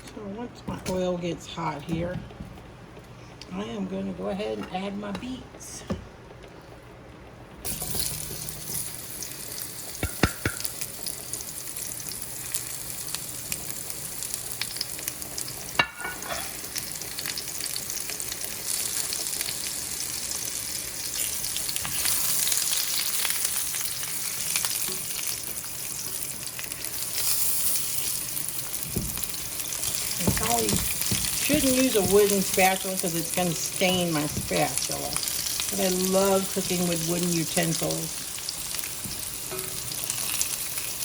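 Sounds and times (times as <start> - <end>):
beets sizzling in oil: 7.7 - 41.0.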